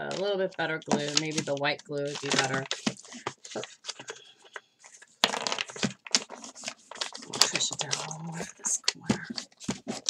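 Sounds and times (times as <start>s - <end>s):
paper bag crinkling: 0.1s - 4.2s, 4.8s - 10.0s.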